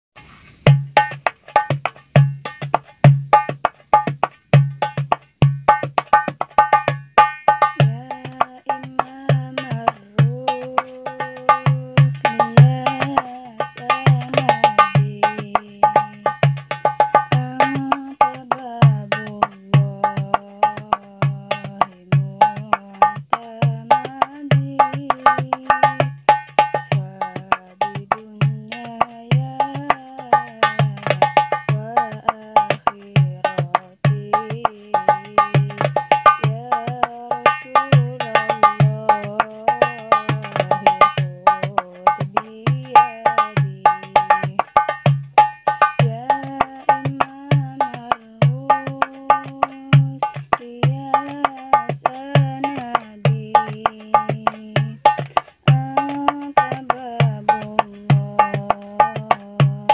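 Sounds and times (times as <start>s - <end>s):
hand drum rhythm: 0.2s - 59.9s.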